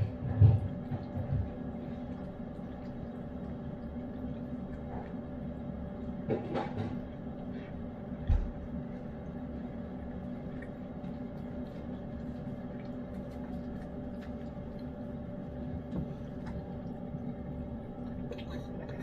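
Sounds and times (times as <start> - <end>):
cat licking and chewing: 0.0 - 6.2, 8.8 - 19.0
low hum: 0.0 - 19.0.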